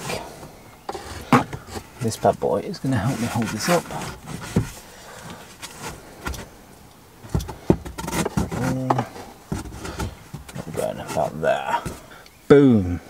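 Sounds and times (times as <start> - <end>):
knocks taps and scrapes: 0.0 - 6.6, 7.2 - 12.3.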